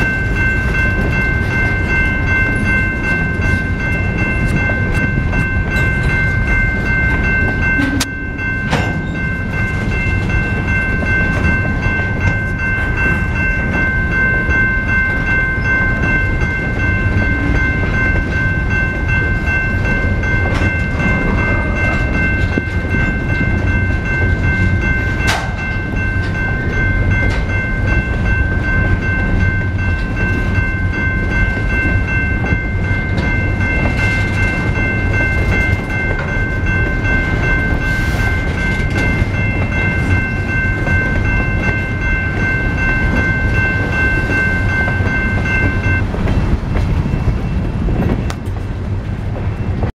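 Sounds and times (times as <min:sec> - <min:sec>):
crossing bell ringing: 0:00.0 - 0:49.9
freight train rumbling past: 0:00.0 - 0:49.9.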